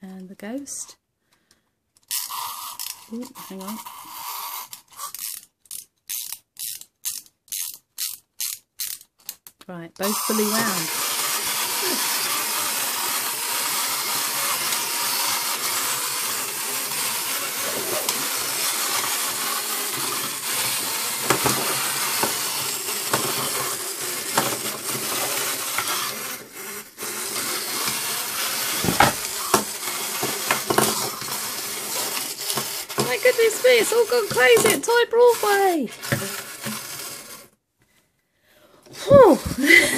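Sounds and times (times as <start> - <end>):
wind-up toys whirring: 2.0 - 37.6, 38.9 - 39.9.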